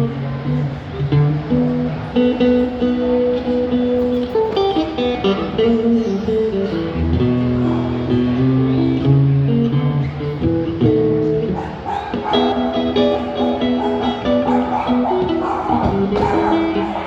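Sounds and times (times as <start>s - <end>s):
guitar picked notes: 0.0s - 17.0s.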